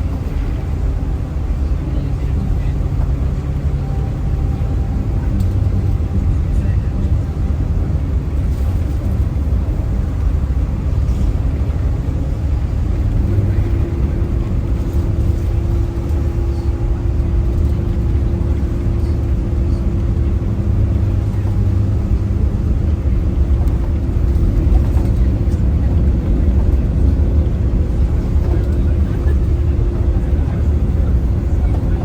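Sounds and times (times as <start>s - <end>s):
steady hum: 0.0s - 32.0s
vehicle cabin rumble: 0.0s - 32.0s.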